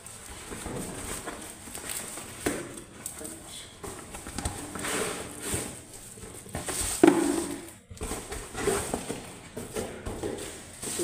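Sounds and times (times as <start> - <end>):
plastic bags crinkling: 0.0 - 9.6.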